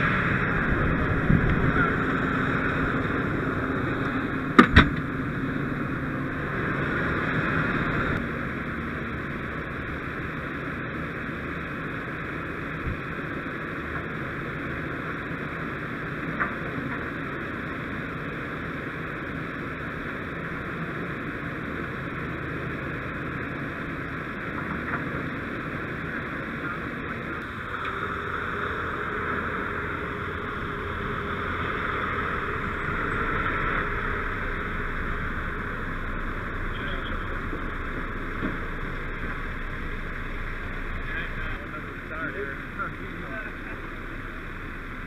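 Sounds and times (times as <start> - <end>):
diesel truck engines: 0.0 - 45.0
tow truck driving up: 0.0 - 45.0.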